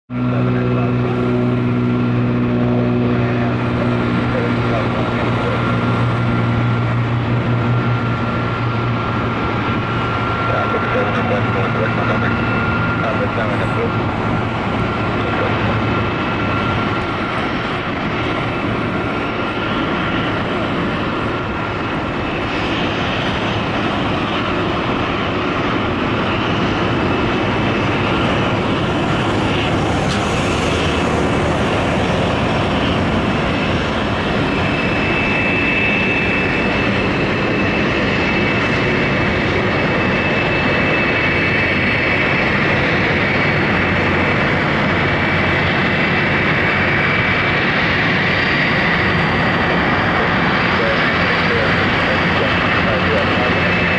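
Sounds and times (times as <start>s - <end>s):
higher whine: 0.1s - 53.9s
jet engines running: 0.1s - 53.9s
thin engine whine: 0.1s - 53.9s.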